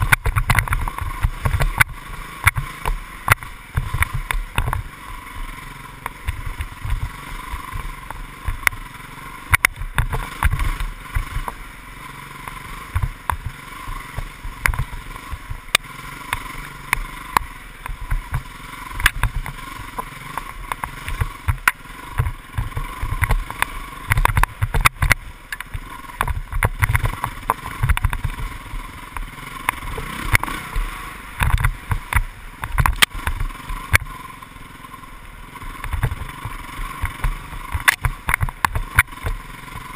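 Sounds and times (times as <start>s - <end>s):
knocks and thumps over bumps: 0.0s - 34.6s, 35.6s - 39.9s
dirt bike engine running: 0.0s - 39.9s.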